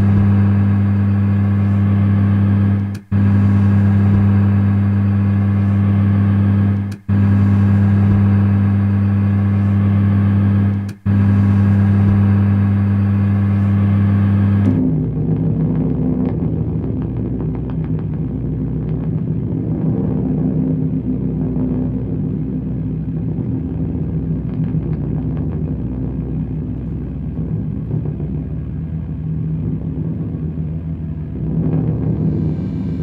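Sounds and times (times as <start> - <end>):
low buzzing drone: 0.0 - 33.0
rough quiet rumble: 0.0 - 33.0.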